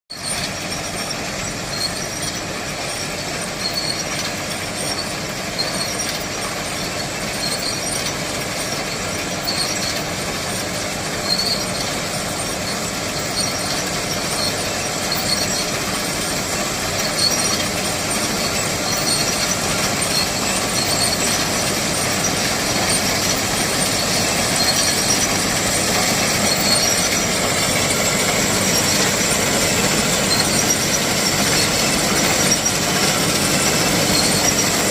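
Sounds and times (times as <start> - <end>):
harvesting machine clattering: 0.3 - 34.9.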